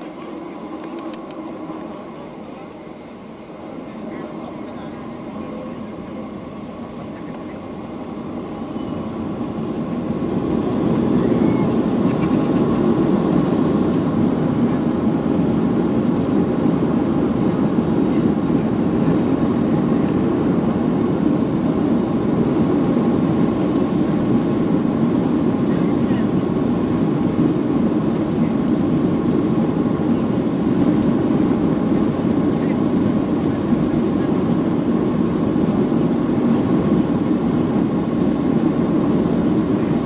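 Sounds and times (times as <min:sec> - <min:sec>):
jet engines rumbling from cabin: 0:00.0 - 0:40.0.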